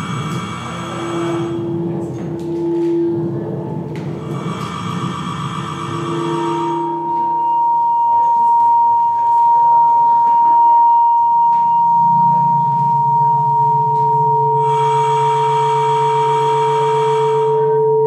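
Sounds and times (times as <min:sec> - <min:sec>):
cluster of higher tones: 0:00.0 - 0:18.0
loud whistling feedback tone: 0:00.0 - 0:18.0
low hum: 0:00.0 - 0:18.0
lower feedback tones: 0:00.0 - 0:18.0.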